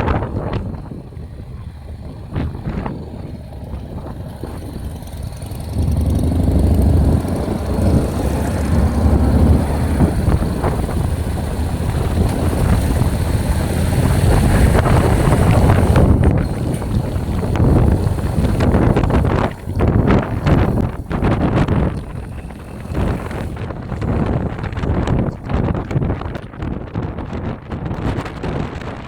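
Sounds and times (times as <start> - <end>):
motorcycle engine rumble: 0.0 - 29.0
wind buffeting microphone: 0.0 - 29.0.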